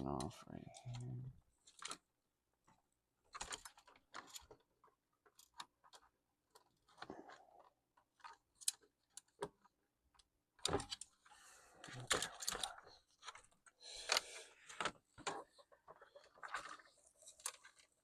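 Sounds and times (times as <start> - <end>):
laptop parts clicking and scraping: 0.7 - 2.1, 3.3 - 18.0.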